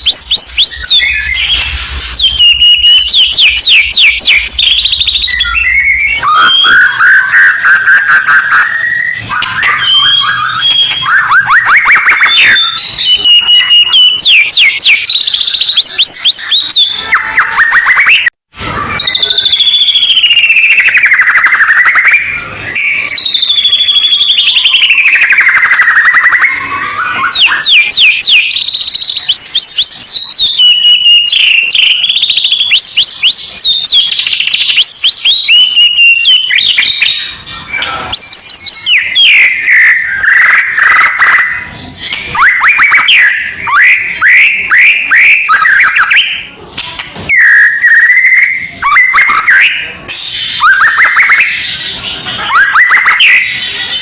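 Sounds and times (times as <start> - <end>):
songbird trills and whistles: 0.0 - 18.3, 18.9 - 54.0.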